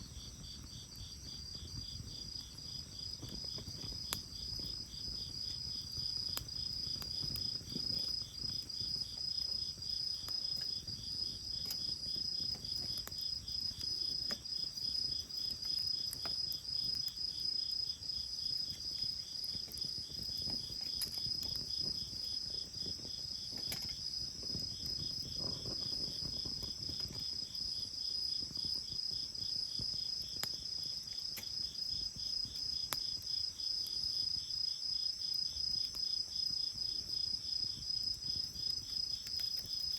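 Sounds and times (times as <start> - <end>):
bonfire crackling and popping: 0.0 - 39.9
crickets trilling: 0.0 - 39.9.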